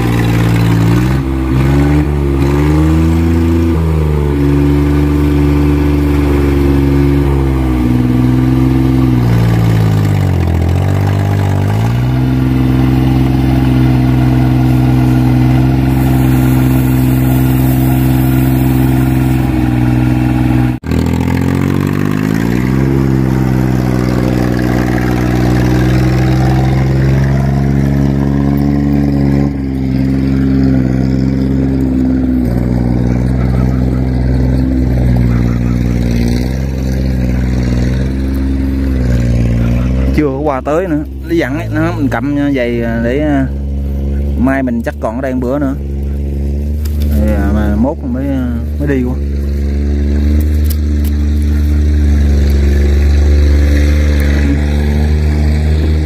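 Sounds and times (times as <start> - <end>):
loud diesel engine running: 0.0 - 56.0.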